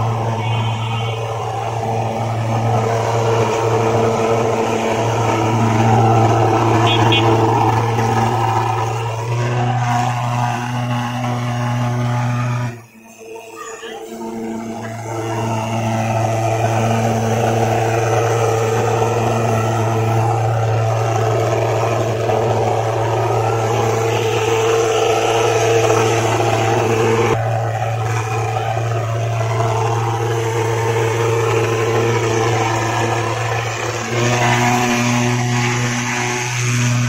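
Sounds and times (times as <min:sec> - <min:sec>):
fogging machine droning: 0:00.0 - 0:37.0.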